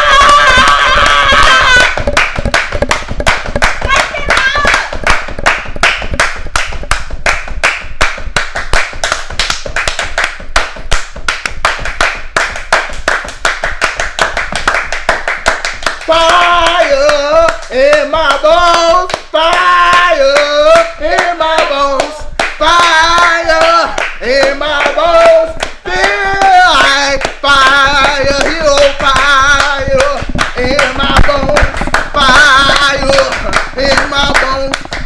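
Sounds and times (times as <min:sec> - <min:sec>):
fast hand clapping: 0:00.0 - 0:35.0.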